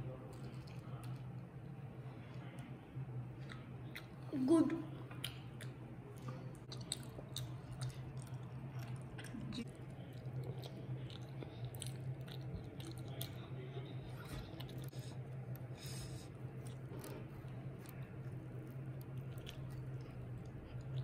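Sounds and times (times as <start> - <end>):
steady low hum: 0.0 - 21.0
child chewing dumplings: 0.1 - 21.0.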